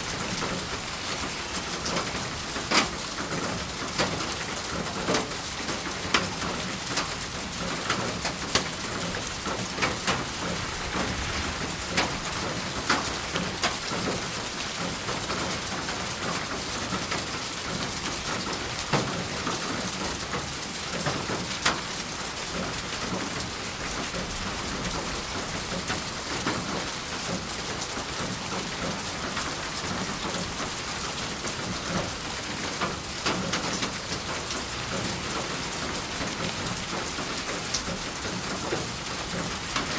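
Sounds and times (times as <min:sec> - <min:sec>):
rain hiss: 0:00.0 - 0:39.9
raindrops ticking on a surface: 0:00.0 - 0:39.9.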